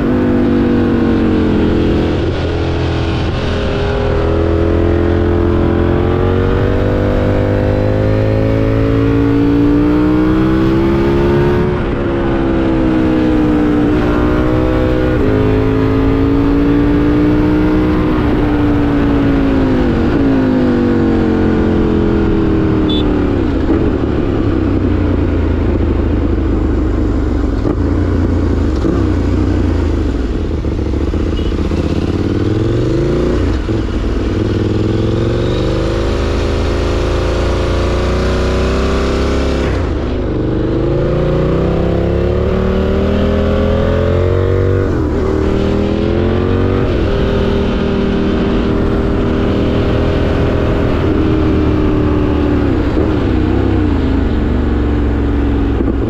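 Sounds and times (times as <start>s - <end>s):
motorcycle engine revving through upshifts: 0.0s - 56.0s
wind and road noise: 0.0s - 56.0s.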